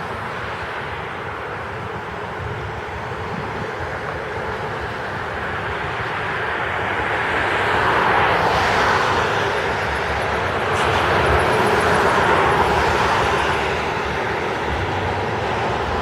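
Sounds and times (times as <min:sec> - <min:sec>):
heavy rain pouring: 0:02.8 - 0:16.0.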